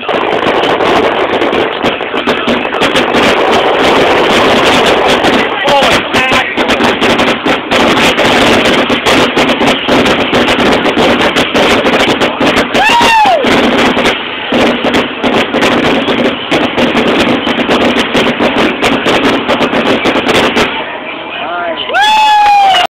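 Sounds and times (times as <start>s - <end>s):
fireworks crackling and popping: 0.0s - 22.9s.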